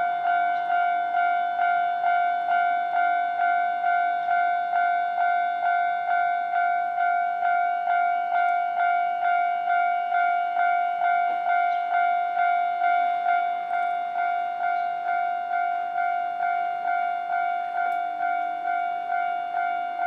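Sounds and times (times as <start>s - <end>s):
level-crossing bell ringing: 0.0s - 20.0s.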